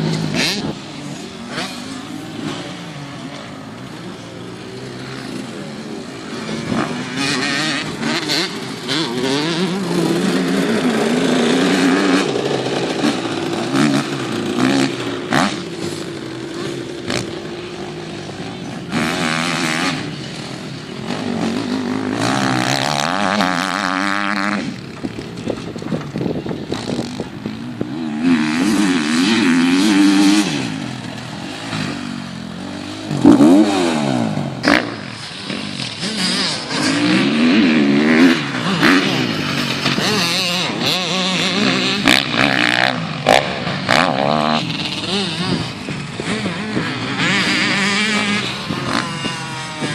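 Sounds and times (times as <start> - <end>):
motorbike engines revving: 0.0 - 49.9.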